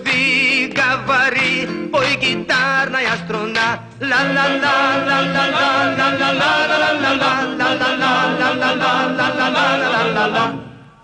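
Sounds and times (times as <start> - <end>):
voices singing wordless long notes: 0.0 - 11.0.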